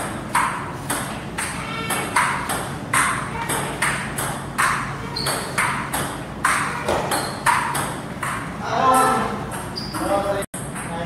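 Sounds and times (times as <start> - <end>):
table tennis ball clicking: 0.3 - 11.0.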